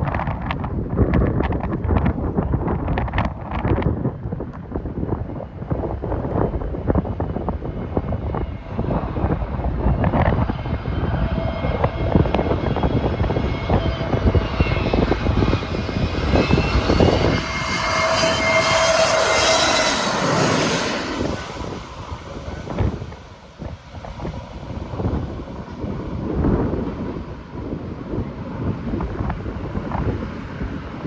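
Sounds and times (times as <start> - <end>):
airliner passing overhead: 0.0 - 31.0
wind buffeting microphone: 0.0 - 31.0.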